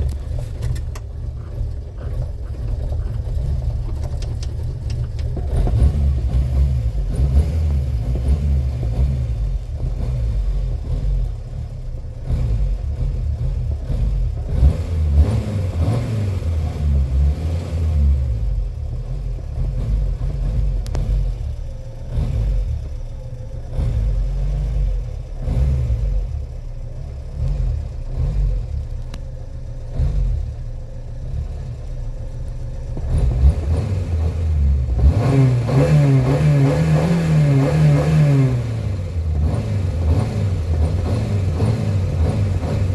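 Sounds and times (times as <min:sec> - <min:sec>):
car engine running rough and revving: 0:00.0 - 0:42.9.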